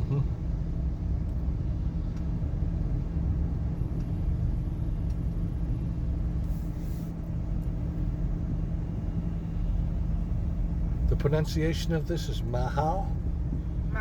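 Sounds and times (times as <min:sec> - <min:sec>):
car driving rumble inside cabin: 0:00.0 - 0:14.0.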